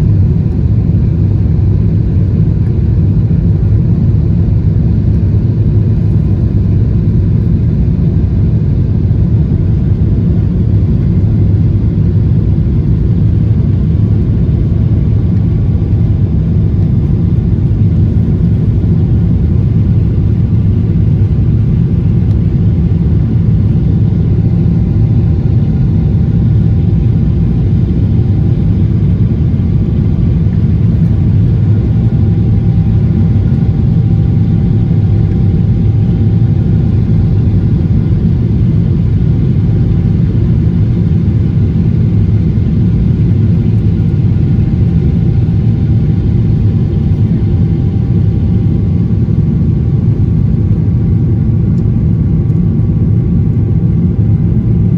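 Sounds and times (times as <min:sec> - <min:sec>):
aircraft engine drone: 0:00.0 - 0:54.9.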